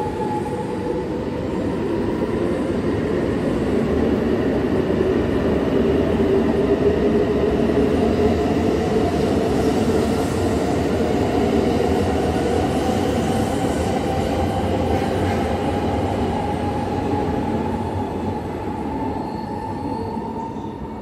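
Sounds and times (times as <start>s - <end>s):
train wheels rumbling on rail: 0.0s - 20.4s
high train whine: 0.0s - 21.0s.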